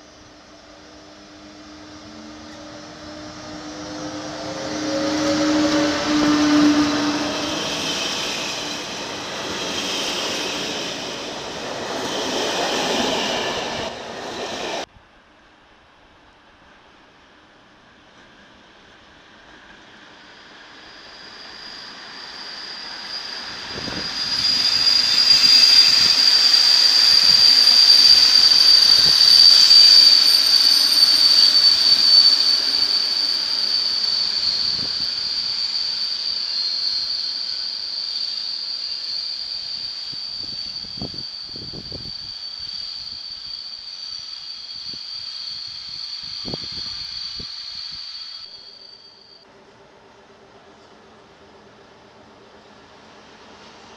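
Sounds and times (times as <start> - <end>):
train wheels squealing on rails: 0.0 - 14.9, 17.7 - 53.9.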